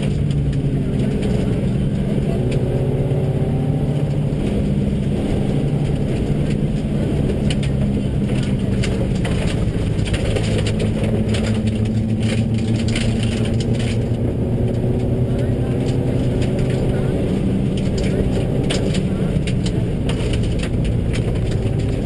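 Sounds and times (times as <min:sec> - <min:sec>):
gravel clattering against car: 0:00.0 - 0:22.0
rally car engine running hard: 0:00.0 - 0:22.0.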